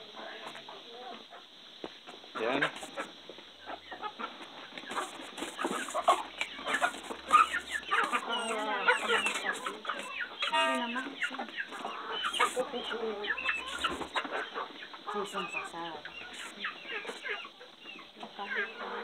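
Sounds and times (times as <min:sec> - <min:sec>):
chickens clucking: 0:00.0 - 0:19.0
long drawn-out chicken call: 0:03.7 - 0:19.0.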